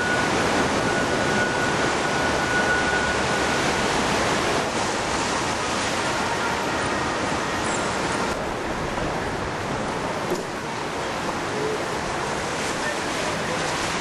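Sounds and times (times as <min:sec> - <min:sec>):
rough water washing: 0:00.0 - 0:14.0.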